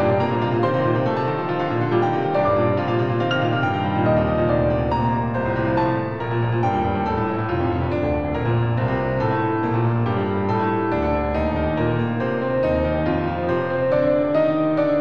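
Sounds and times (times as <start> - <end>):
soft piano piece: 0.0 - 15.0.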